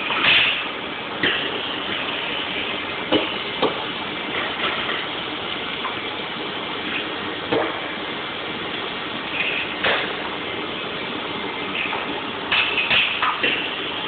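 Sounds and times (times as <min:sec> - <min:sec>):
roller conveyor machine noise: 0:00.0 - 0:14.0.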